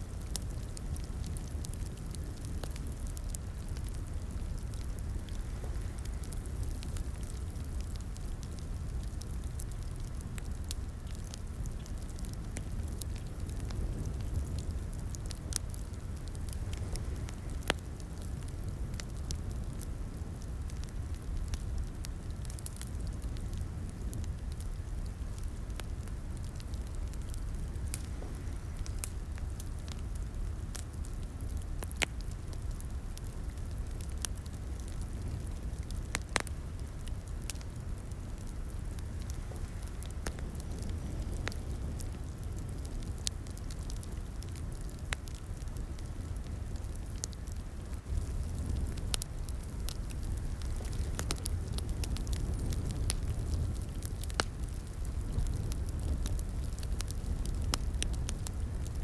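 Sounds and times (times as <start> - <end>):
fireplace crackling: 0.2 - 59.0.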